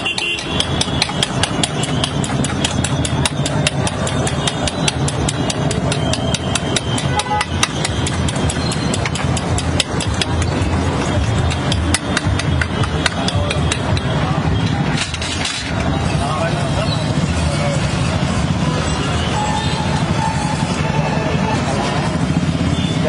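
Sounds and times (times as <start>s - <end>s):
street traffic hum: 0.0s - 23.0s.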